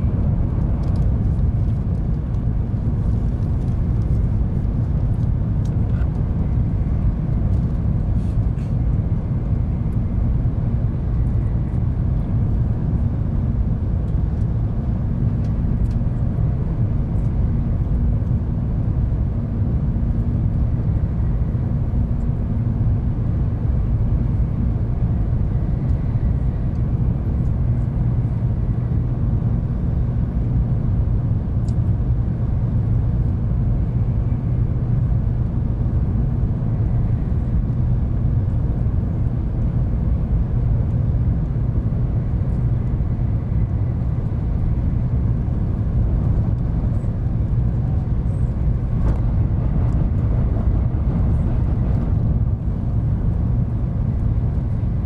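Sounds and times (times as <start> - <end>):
train wheels rumbling inside car: 0.0 - 55.0.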